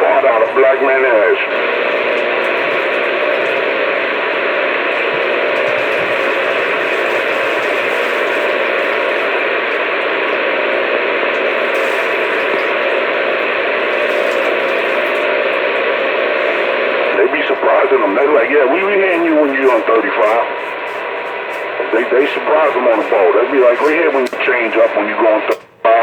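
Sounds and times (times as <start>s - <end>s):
radio static hissing: 0.0s - 26.0s.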